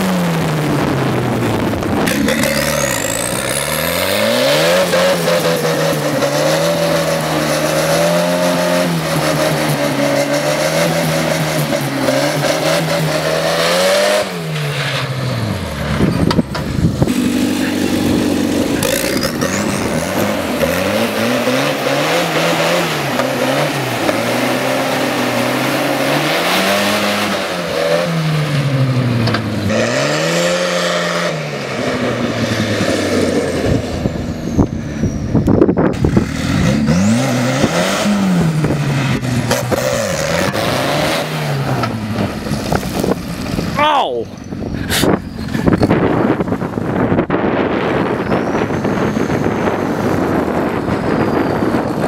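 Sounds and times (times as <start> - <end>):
tractor engine revving: 0.0 - 52.0.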